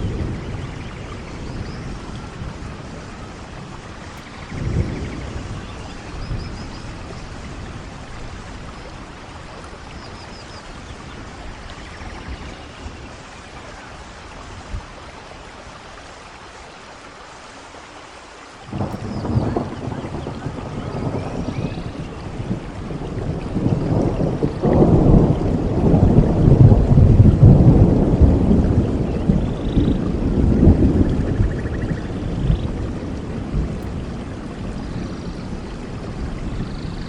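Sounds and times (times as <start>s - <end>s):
thunder rumbling: 0.0s - 15.5s, 18.7s - 37.0s
steady rain falling: 0.0s - 37.0s.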